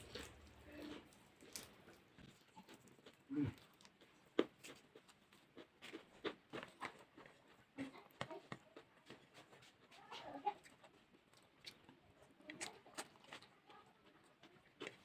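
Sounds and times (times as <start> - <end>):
chewing with crisp crunches: 0.0 - 15.0.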